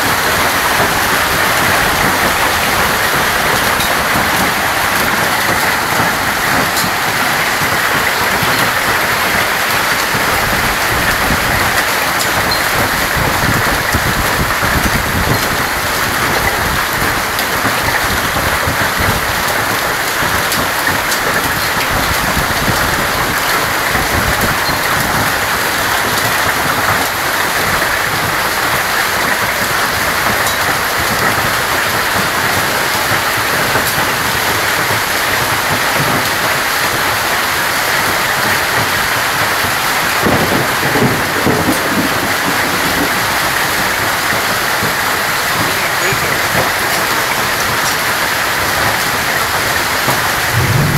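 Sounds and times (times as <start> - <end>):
hail and rain pelting a wooden deck: 0.0 - 50.9.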